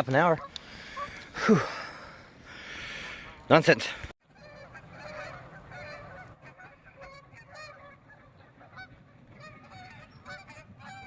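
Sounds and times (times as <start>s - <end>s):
geese honking: 0.1s - 1.4s, 2.9s - 11.0s.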